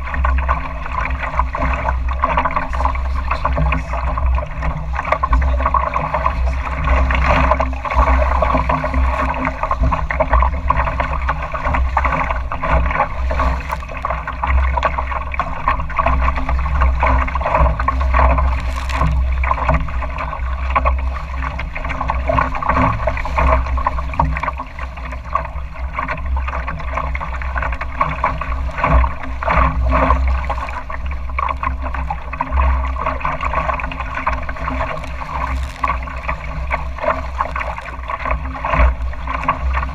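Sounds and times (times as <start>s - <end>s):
water splashing along hull: 0.0s - 39.9s.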